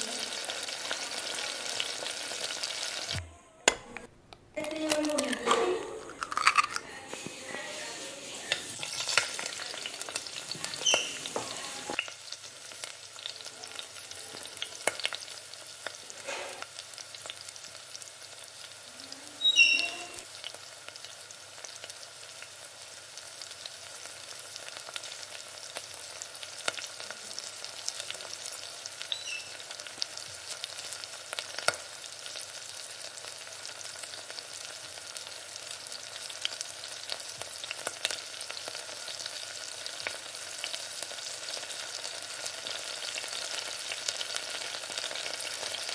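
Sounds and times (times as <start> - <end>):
hot oil sizzling and crackling: 0.0 - 3.2, 6.0 - 45.9.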